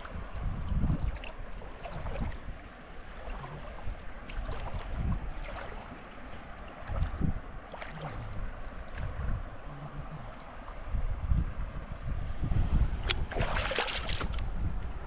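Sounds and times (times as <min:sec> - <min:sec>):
water washing with small splashes: 0:00.0 - 0:11.1, 0:13.0 - 0:15.0
wind buffeting the microphone: 0:00.0 - 0:15.0.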